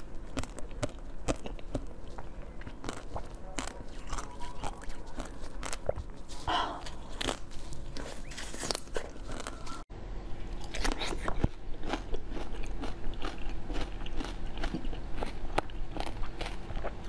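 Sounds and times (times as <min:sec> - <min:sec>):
crisp biting and chewing: 0:00.0 - 0:09.8, 0:10.6 - 0:17.0.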